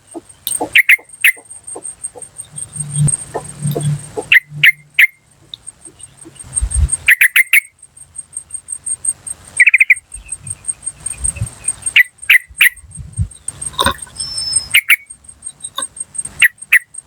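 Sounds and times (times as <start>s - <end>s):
high insect ticking: 0.0s - 17.0s.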